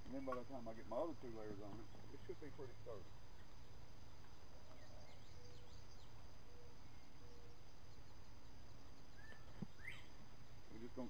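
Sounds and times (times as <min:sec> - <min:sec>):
insects droning: 0:00.0 - 0:11.0
faint bird chirps: 0:01.3 - 0:11.0.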